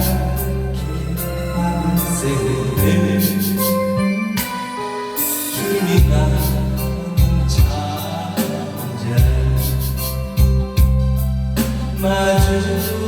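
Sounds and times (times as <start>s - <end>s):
instrumental backing music: 0.0s - 13.0s
person singing: 0.0s - 13.0s.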